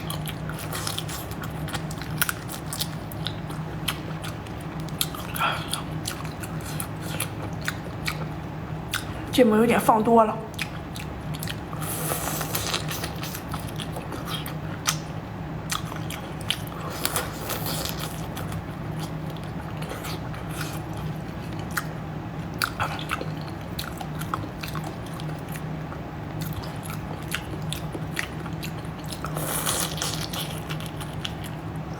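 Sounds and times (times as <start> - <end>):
person chewing crunchy food: 0.0 - 9.3, 10.5 - 31.9
low steady hum: 0.0 - 31.9.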